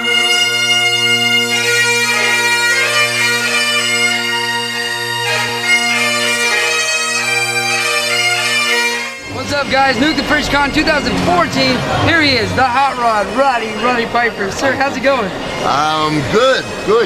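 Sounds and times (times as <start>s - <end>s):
bagpipes playing: 0.0s - 17.0s.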